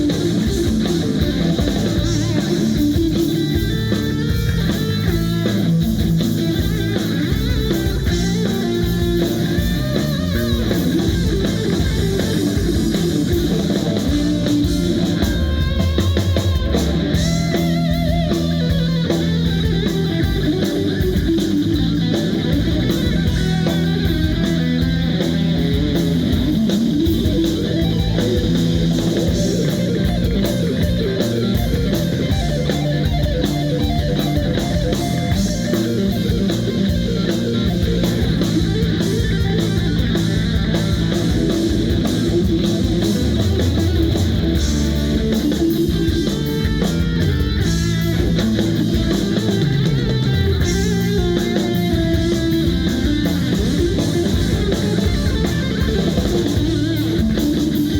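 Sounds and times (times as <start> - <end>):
bass guitar: 0.0 - 57.9
drum kit: 0.0 - 57.9
electric guitar: 0.0 - 57.9.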